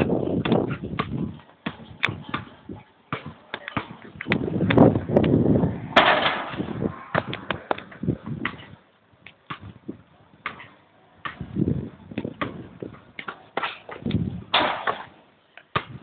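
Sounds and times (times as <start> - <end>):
basketball bouncing on concrete: 0.0 - 5.4, 7.1 - 15.1, 15.7 - 16.0.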